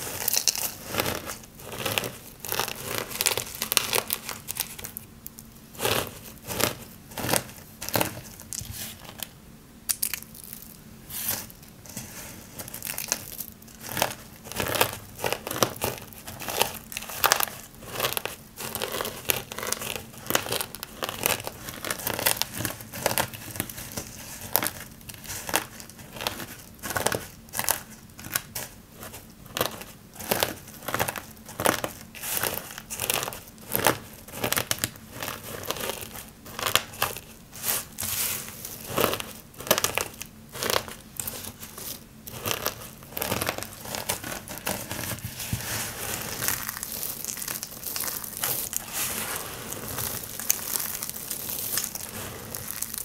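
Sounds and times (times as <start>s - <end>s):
hands crushing dry soap shavings: 0.0s - 9.3s, 9.9s - 53.0s.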